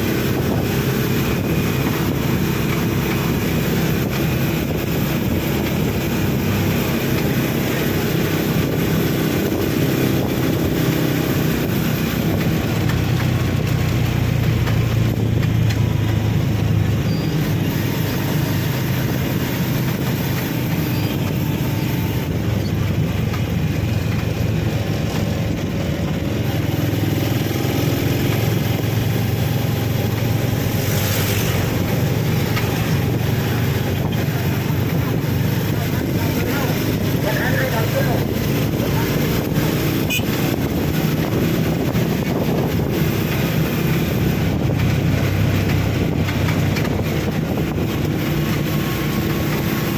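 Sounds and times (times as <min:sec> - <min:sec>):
engine humming: 0:00.0 - 0:49.9.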